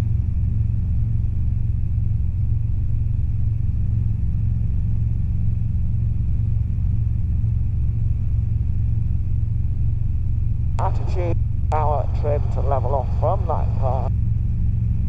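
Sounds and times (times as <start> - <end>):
helicopter engine and rotor rumble: 0.0 - 15.0.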